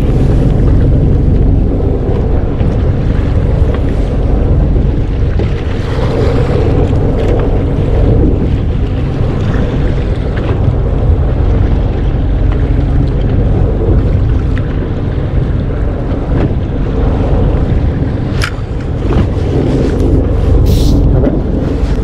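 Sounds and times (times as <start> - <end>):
constant low rumble: 0.0 - 22.0
water moving against hull: 0.0 - 22.0
wind rushing over microphone: 0.0 - 22.0.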